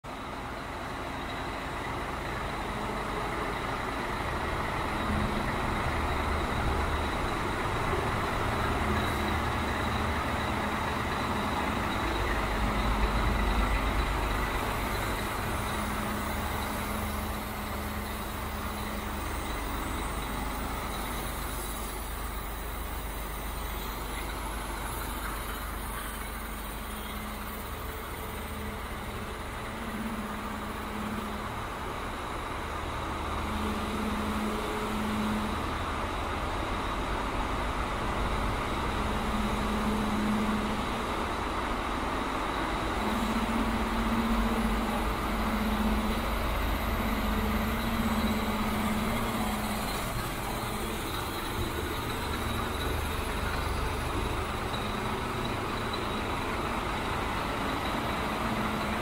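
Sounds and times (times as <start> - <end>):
diesel truck engine idling: 0.1 - 59.0.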